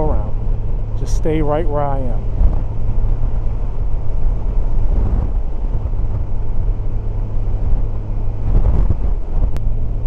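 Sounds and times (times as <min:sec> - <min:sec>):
motorcycle engine drone: 0:00.0 - 0:10.0
wind rushing on microphone: 0:00.0 - 0:10.0.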